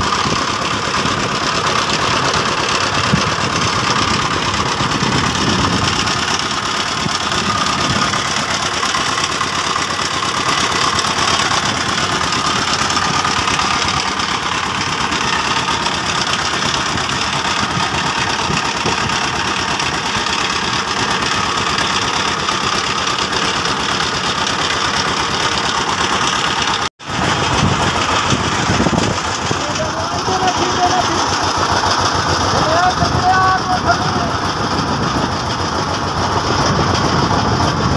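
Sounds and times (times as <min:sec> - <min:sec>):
large engine running: 0:00.0 - 0:37.9.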